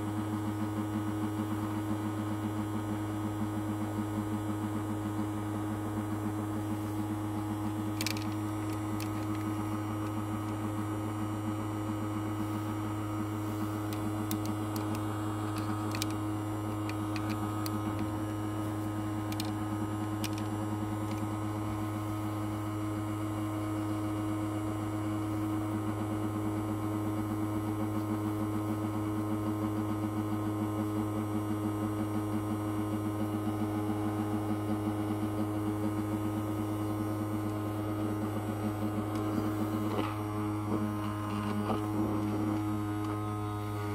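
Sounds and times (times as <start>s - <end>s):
ultrasonic cleaner buzzing: 0.0s - 43.9s.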